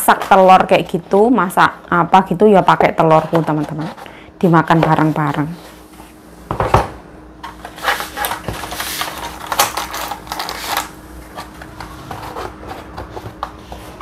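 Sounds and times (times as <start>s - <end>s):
eggs and cartons being handled: 0.0s - 2.0s, 2.7s - 6.1s, 7.4s - 14.0s
steady hum: 0.0s - 14.0s.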